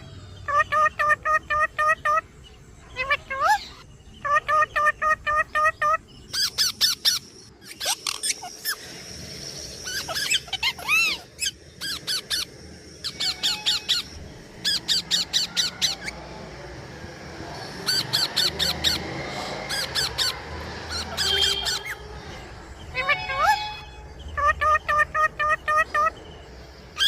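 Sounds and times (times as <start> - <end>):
parrots calling shrilly: 0.0 - 8.9, 9.7 - 16.2, 17.8 - 26.2.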